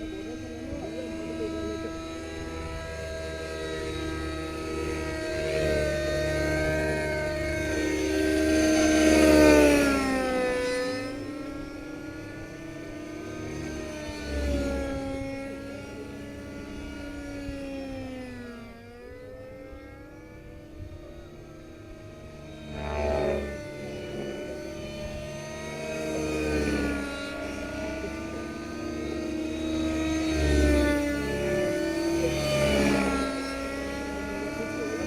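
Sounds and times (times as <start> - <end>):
model helicopter engine and rotors whining: 0.0 - 35.0.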